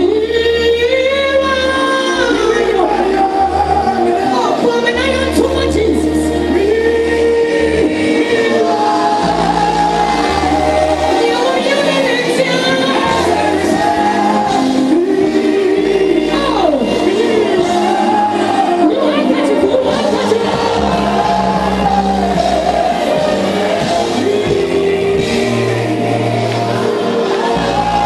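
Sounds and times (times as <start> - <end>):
band playing: 0.0 - 28.0
woman singing gospel: 0.0 - 28.0.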